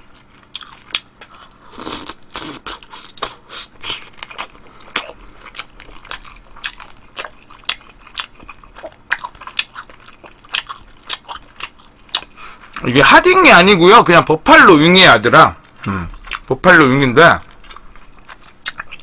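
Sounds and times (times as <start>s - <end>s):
person chewing crunchy food: 0.0s - 12.9s, 15.6s - 16.6s, 17.4s - 19.0s.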